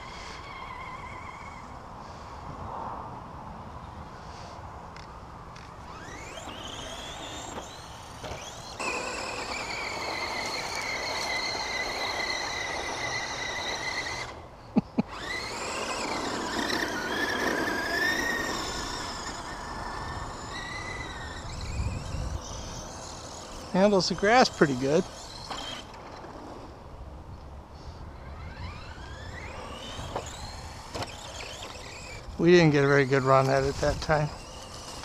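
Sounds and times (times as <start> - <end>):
electric motor whining: 0.0 - 1.8, 5.6 - 14.4, 15.1 - 26.9, 27.8 - 35.0.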